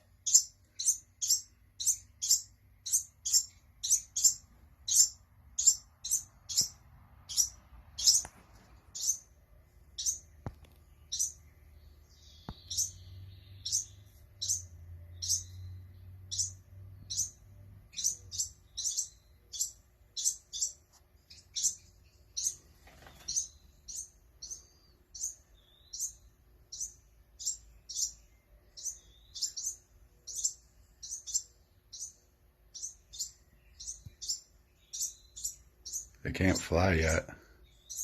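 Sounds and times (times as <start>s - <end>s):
baby birds chirping: 0.0s - 38.0s.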